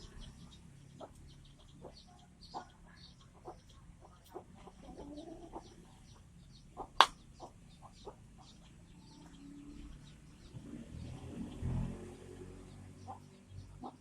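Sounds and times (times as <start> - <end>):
faint bird chirps: 0.0 - 11.4.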